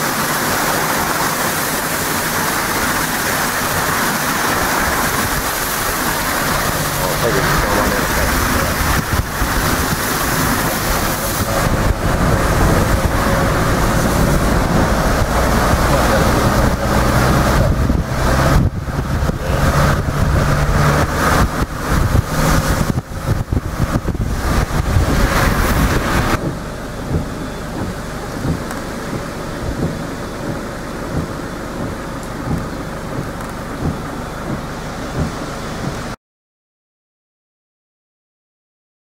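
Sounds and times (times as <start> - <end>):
car engine running: 0.0 - 36.2
rushing floodwater: 0.0 - 36.2
wind buffeting microphone: 1.0 - 36.1.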